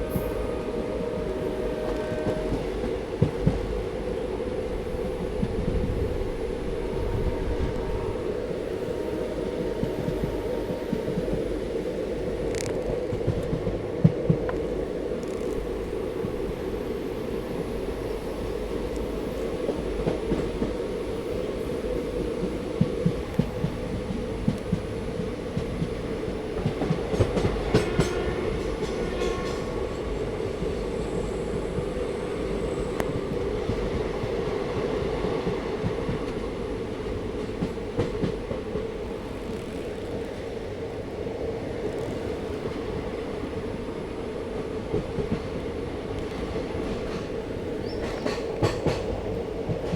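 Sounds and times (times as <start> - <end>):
train rumbling along track: 0.0 - 49.9.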